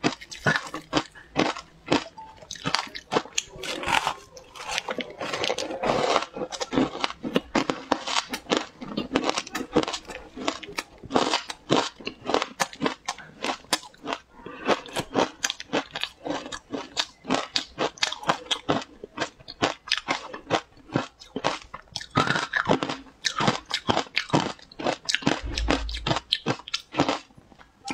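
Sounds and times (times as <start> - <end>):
chewing crunchy shaved ice: 0.0 - 27.9.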